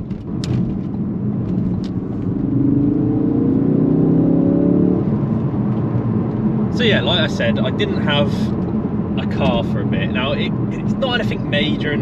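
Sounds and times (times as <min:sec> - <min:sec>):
car engine accelerating: 0:00.0 - 0:12.0
road noise rumble: 0:00.0 - 0:12.0.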